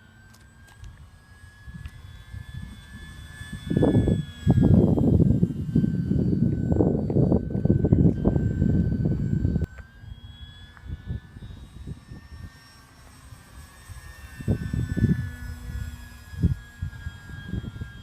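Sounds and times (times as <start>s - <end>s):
model plane motor whine: 0.0s - 18.0s
wind buffeting on microphone: 0.9s - 12.6s, 13.6s - 18.0s.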